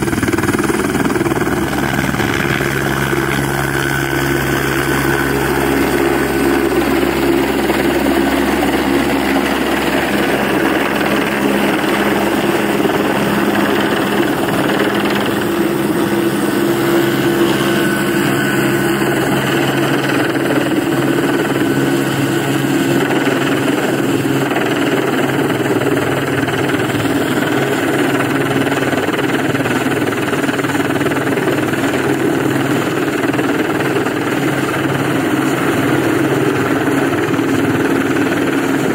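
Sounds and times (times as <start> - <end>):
helicopter hovering overhead: 0.0 - 38.9.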